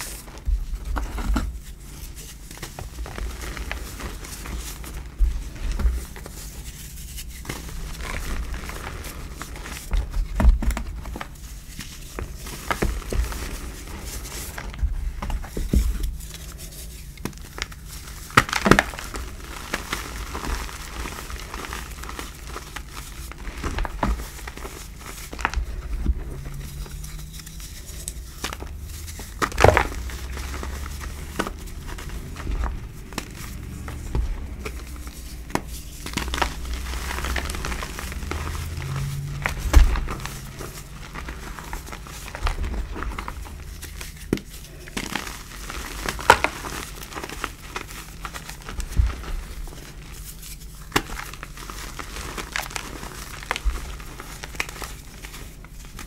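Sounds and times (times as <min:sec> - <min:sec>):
hands crumbling chalk blocks: 0:00.0 - 0:56.0.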